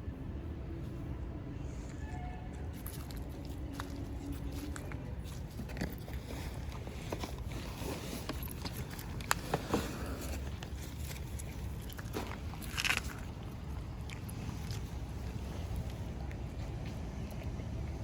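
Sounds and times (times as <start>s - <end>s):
dogs crunching food: 2.8s - 18.0s.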